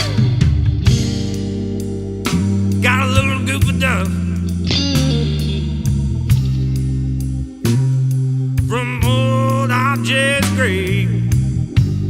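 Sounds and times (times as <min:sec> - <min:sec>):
bass guitar: 0:00.0 - 0:12.0
electric lead guitar bending notes: 0:00.0 - 0:12.0.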